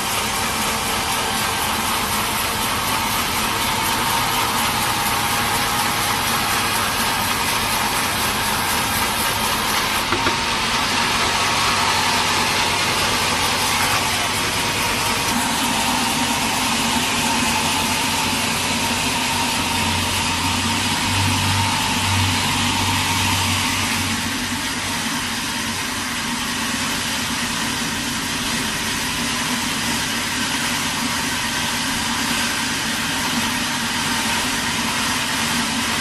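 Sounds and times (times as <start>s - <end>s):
sawmill machinery drone: 0.0s - 36.0s.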